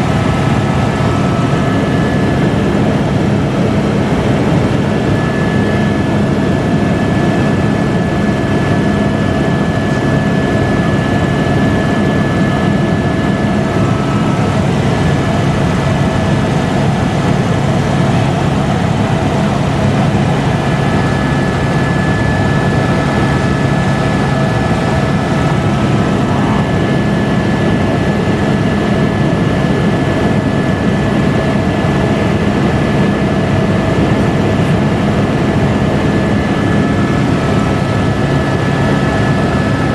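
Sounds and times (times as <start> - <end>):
helicopter engine and rotor drone: 0.0 - 39.9
thin constant whine: 0.0 - 39.9.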